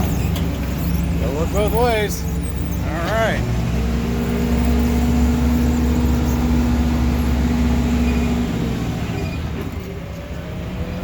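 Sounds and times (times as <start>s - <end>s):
forklift engine running: 0.0s - 11.0s.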